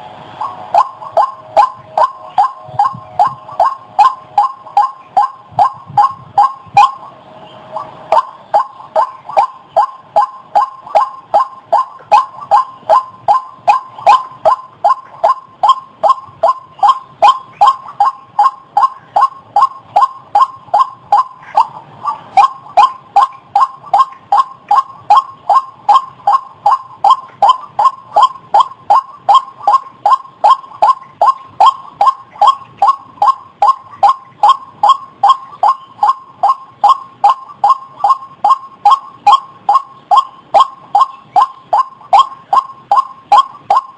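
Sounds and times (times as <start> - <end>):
waterhen calling: 0.0 - 43.9.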